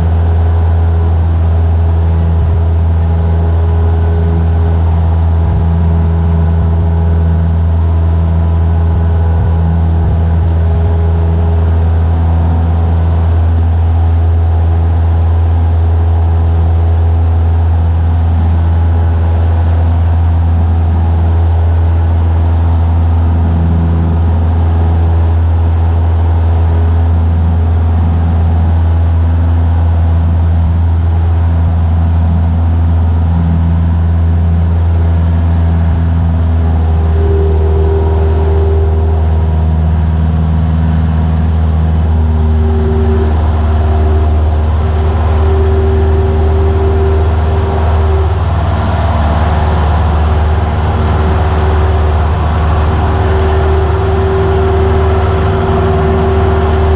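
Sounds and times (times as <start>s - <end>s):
light aircraft engine drone: 0.0s - 56.9s.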